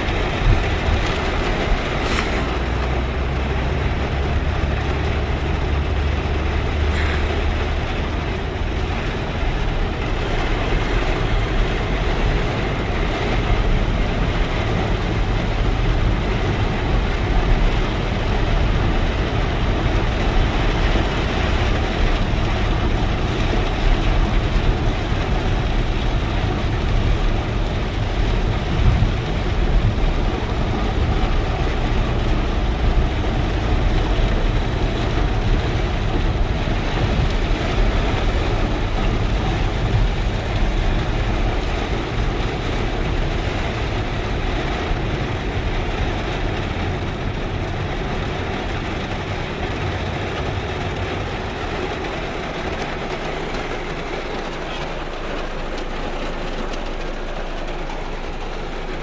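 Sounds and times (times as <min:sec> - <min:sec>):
low rumble: 0:00.0 - 0:59.0
steady rain falling: 0:00.0 - 0:59.0.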